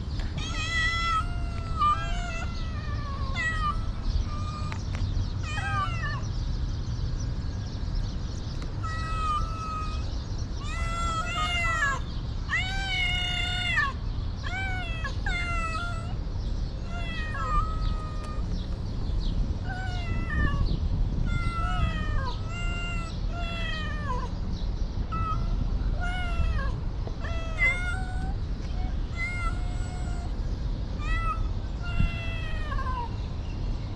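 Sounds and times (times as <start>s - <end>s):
cat meowing: 0.4s - 6.3s, 8.8s - 16.2s, 16.8s - 18.6s, 19.6s - 24.3s, 25.1s - 30.4s, 31.0s - 33.2s.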